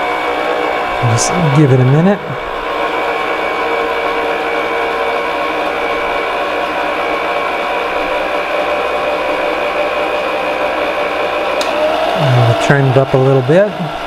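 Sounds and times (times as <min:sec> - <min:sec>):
stand mixer motor humming: 0:00.0 - 0:14.0.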